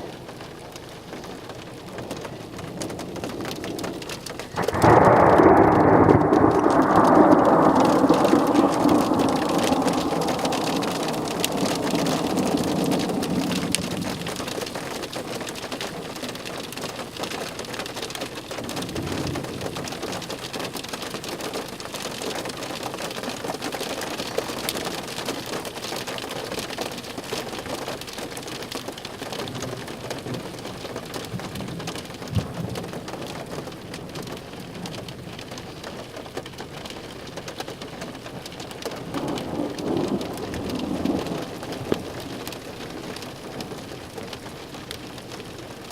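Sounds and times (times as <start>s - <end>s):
steady rain falling: 0.0s - 45.9s
thunder rumbling: 0.1s - 26.9s, 28.6s - 45.9s.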